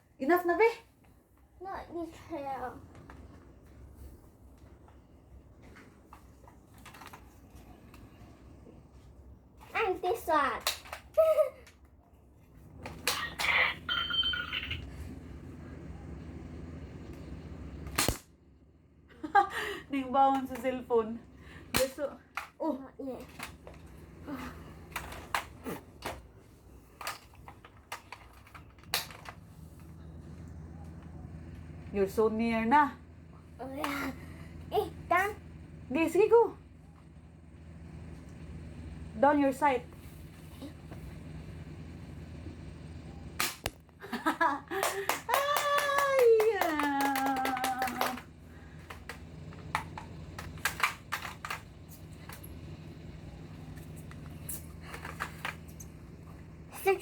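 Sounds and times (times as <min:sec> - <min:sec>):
faint low hum: 0:00.0 - 0:57.0.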